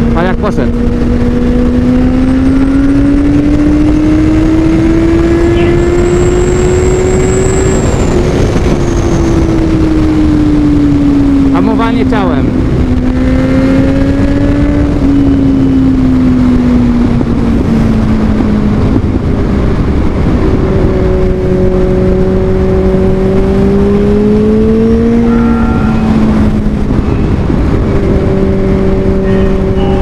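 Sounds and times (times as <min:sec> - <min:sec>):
motorcycle engine cruising: 0:00.0 - 0:30.0
wind rush: 0:00.0 - 0:30.0.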